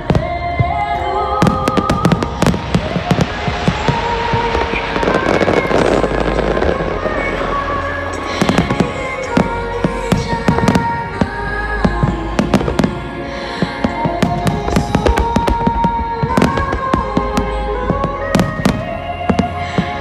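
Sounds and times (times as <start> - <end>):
fireworks bursting and crackling: 0.0 - 20.0
music playing: 0.0 - 20.0.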